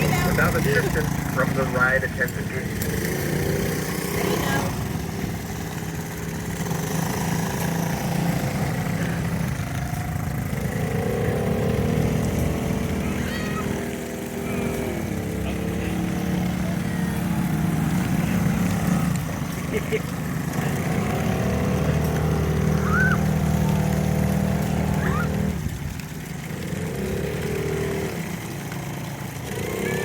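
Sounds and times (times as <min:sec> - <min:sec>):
small boat engines humming: 0:00.0 - 0:30.0.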